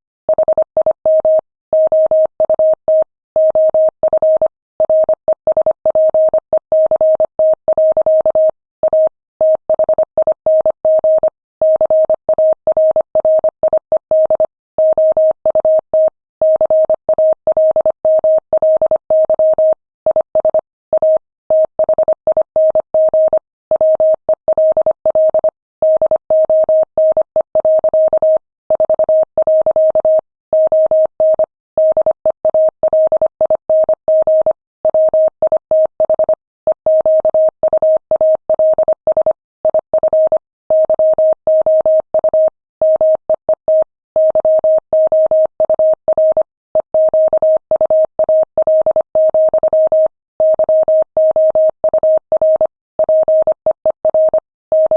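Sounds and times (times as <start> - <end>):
morse code beeps: 0.3 - 15.8, 16.5 - 54.9.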